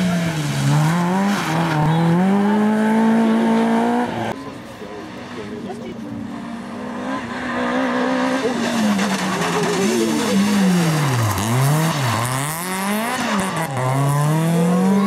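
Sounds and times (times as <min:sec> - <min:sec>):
rally car engine revving: 0:00.0 - 0:04.5, 0:05.1 - 0:15.0.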